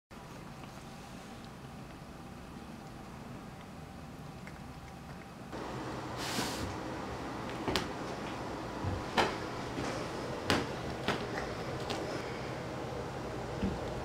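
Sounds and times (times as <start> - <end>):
low room hum: 0.2 - 14.0.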